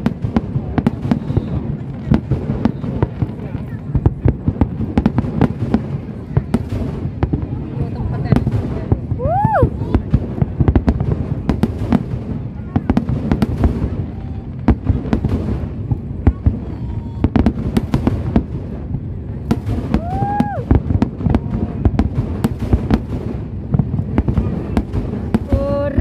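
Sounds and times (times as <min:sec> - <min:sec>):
firework bangs and crackles: 0:00.0 - 0:26.0
low rumble of detonations: 0:00.0 - 0:26.0.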